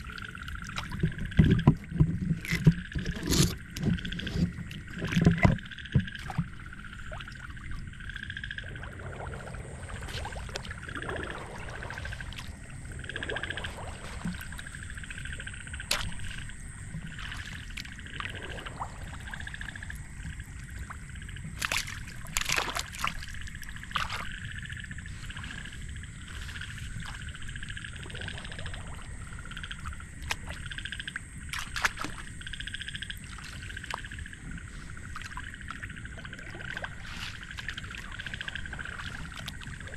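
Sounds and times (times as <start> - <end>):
frogs calling in chorus: 0.0 - 39.9.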